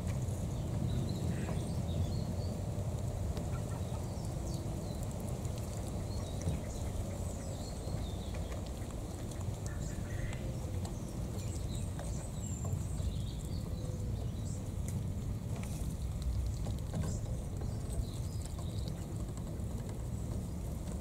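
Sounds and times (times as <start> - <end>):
ducklings peeping: 3.4 - 21.0.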